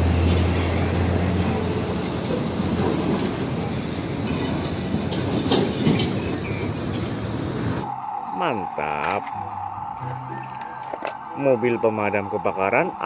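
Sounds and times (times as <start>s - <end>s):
road traffic noise: 0.0s - 13.0s
tanker trucks driving past: 0.0s - 13.0s.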